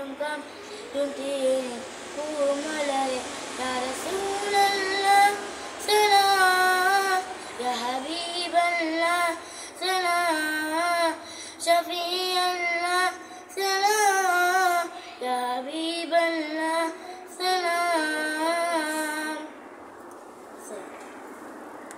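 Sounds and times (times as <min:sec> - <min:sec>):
boy singing solo: 0:00.0 - 0:19.5.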